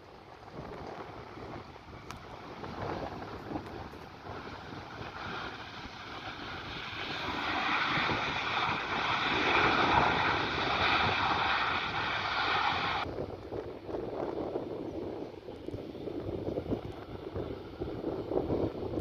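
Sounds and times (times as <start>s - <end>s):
jet engine whine: 0.0s - 19.0s
jet engines passing: 0.0s - 19.0s
wind on microphone: 0.0s - 19.0s.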